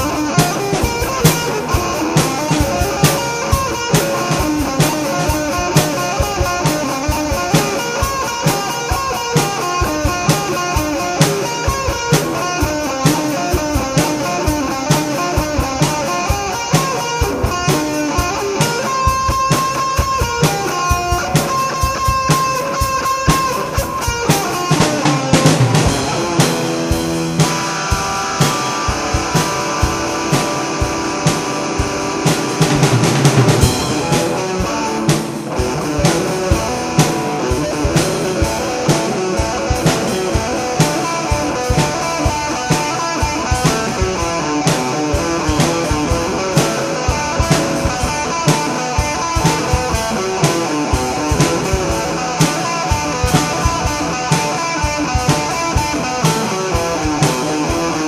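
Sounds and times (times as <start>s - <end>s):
drum kit beat: 0.0s - 58.0s
electric guitar riffs: 0.0s - 58.0s.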